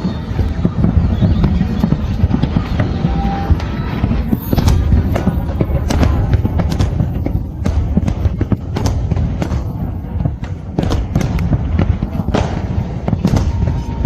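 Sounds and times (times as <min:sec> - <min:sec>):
fireworks bangs and crackling: 0:00.0 - 0:14.0
low rumble: 0:00.0 - 0:14.0.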